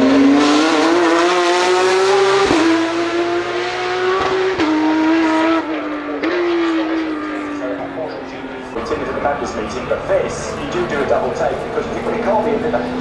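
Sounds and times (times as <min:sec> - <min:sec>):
sports car engine accelerating: 0:00.0 - 0:13.0.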